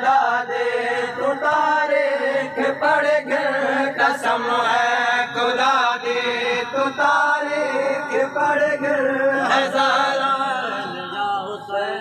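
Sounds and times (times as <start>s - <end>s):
men chanting a mourning lament: 0.0s - 12.0s.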